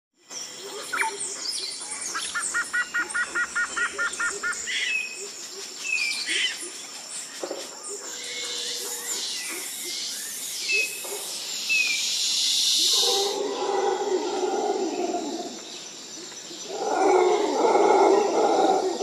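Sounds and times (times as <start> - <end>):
birds calling and chirping: 0.2 - 19.0.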